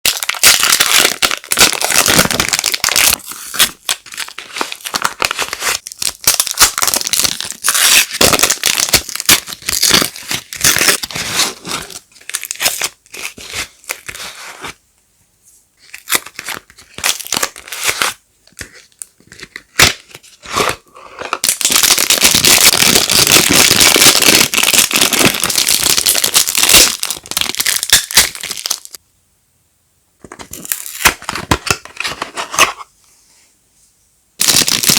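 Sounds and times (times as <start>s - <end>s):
packaging tearing and crinkling: 0.1s - 14.4s, 15.9s - 29.0s, 30.4s - 32.8s, 34.4s - 34.9s.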